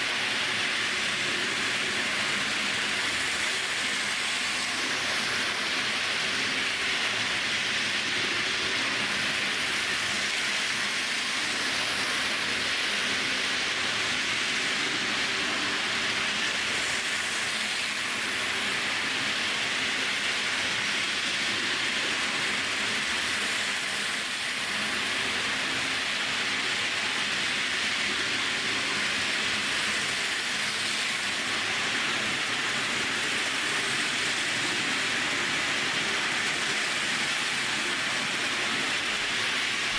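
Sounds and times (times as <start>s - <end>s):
model train motor whirring: 0.0s - 39.9s.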